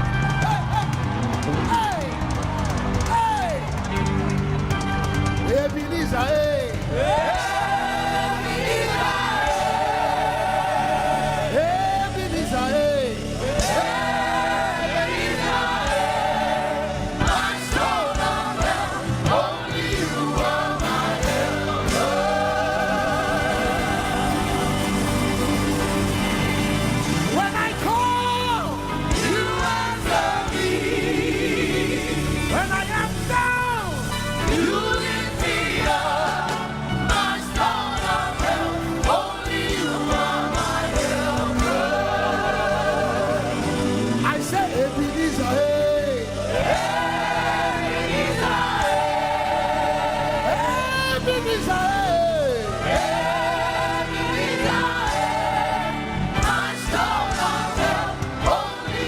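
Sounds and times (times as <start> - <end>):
band with drums: 0.0 - 59.0
choir and congregation singing: 6.8 - 33.3, 34.0 - 59.0.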